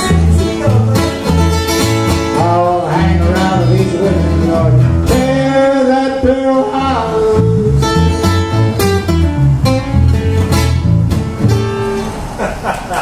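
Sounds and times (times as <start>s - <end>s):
acoustic guitar boom-chick rhythm: 0.0s - 13.0s.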